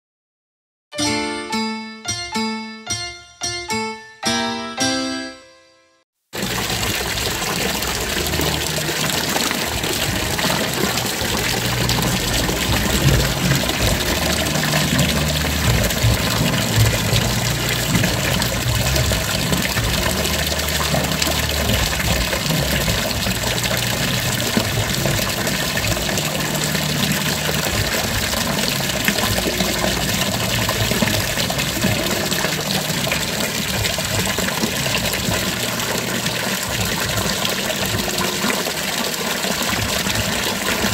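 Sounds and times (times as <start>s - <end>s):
fountain water splashing: 6.4s - 40.9s.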